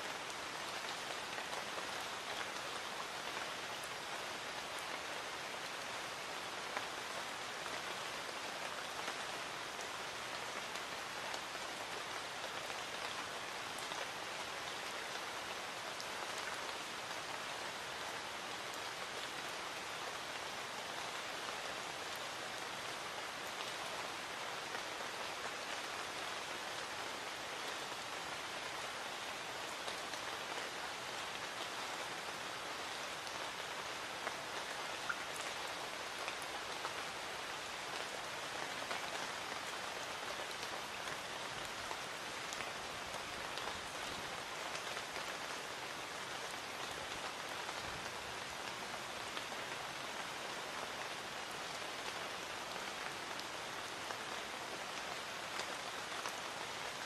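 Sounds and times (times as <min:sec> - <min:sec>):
light rain pattering: 0:00.0 - 0:57.0.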